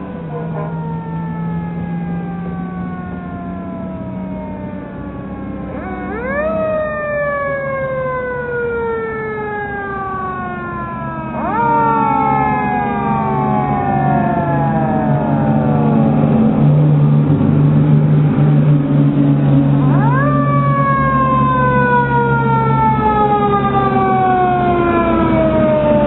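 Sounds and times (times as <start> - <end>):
mechanical siren wailing: 0.0 - 26.0
steady low drone: 0.0 - 26.0.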